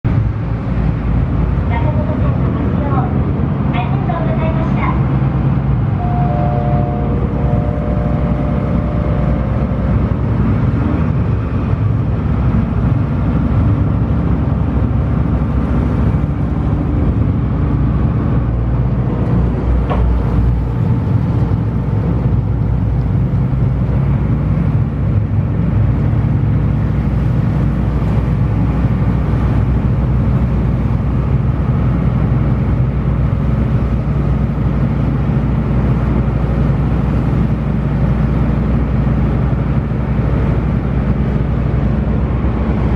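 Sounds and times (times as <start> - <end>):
ferry engine drone: 0.0 - 42.9.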